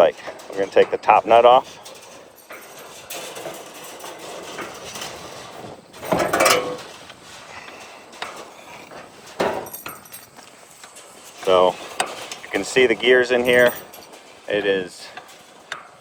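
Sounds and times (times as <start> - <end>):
metal clank: 0.0 - 16.0
metal cover being handled: 0.0 - 16.0.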